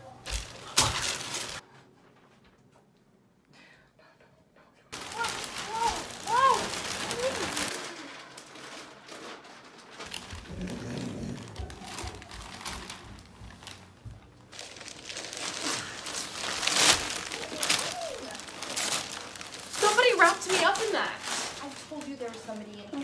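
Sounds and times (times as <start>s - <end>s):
wrapping paper crinkling: 0.2s - 1.6s, 5.0s - 23.0s.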